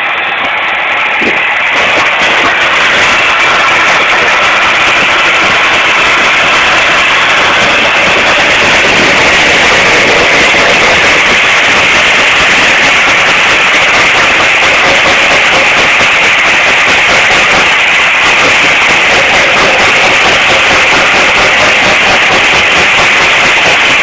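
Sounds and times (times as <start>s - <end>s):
machine grinding: 0.0s - 24.0s.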